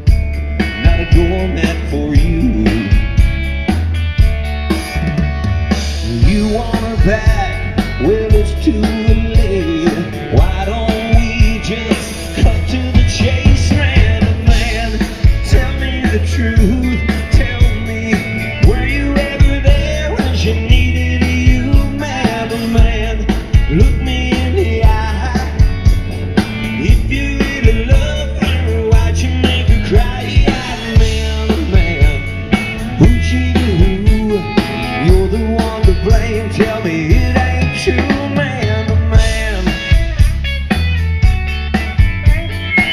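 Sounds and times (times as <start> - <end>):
drums keeping steady beat: 0.0 - 42.9
live rock band playing: 0.0 - 42.9.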